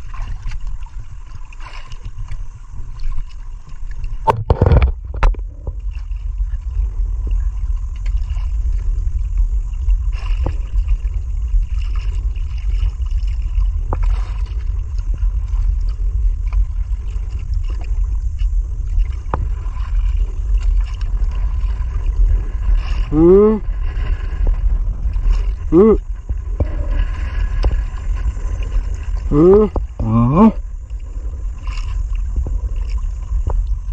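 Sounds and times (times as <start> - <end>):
water washing against hull: 0.0 - 33.9
wind buffeting microphone: 4.2 - 33.9.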